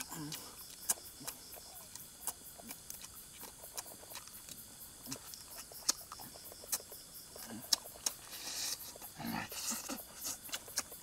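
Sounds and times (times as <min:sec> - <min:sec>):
lip smacks: 0:00.0 - 0:07.0, 0:07.7 - 0:09.1, 0:09.7 - 0:11.0
chewing: 0:00.0 - 0:11.0.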